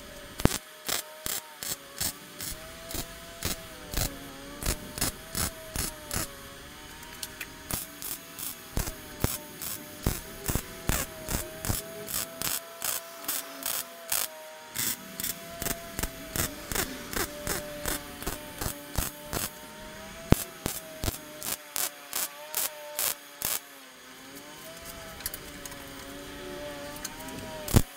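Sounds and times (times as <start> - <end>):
steady hum: 0.0 - 23.6
welder pulsing: 0.0 - 27.9.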